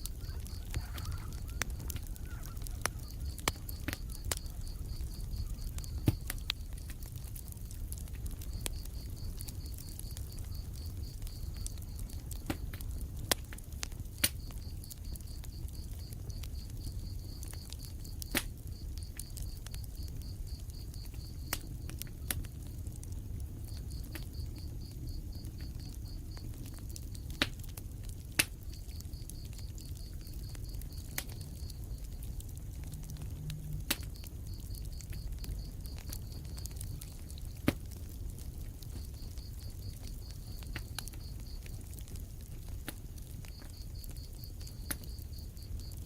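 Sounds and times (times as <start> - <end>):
fire burning with low rumble: 0.0 - 46.0
fire crackles and pops: 0.0 - 46.0.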